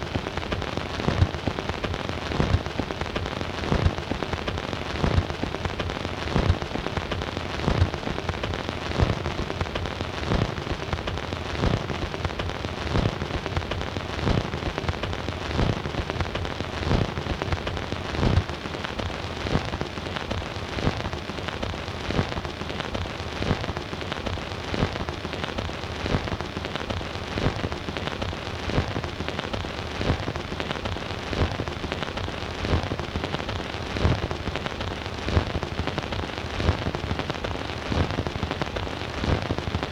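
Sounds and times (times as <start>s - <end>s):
record hiss and crackle: 0.0s - 39.9s.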